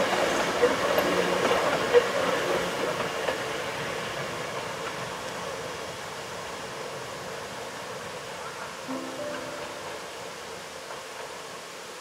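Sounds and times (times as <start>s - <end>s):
electric train running past: 0.0s - 12.0s.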